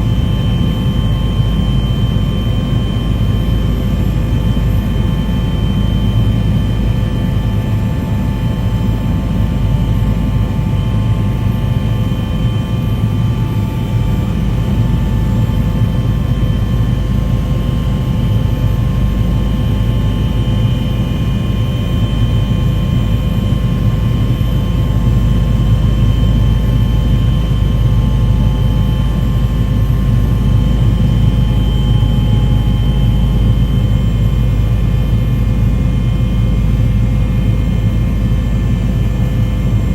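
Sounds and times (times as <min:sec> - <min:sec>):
mechanical drone with low rumble: 0:00.0 - 0:39.9.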